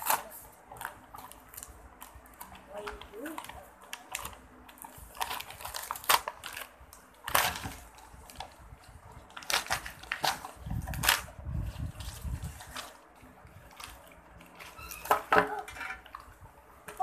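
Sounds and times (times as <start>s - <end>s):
wrapping paper tearing and crumpling: 0.0s - 16.2s.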